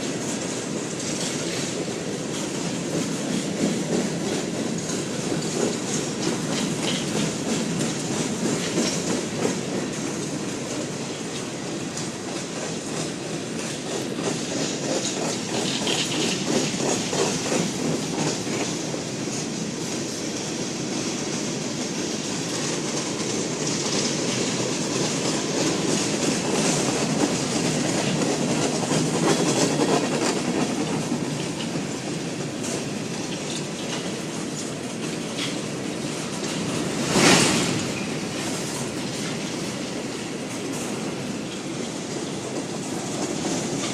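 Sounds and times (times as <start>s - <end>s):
freight train cars rolling: 0.0s - 43.9s
wheels clicking over rail joints: 0.0s - 43.9s.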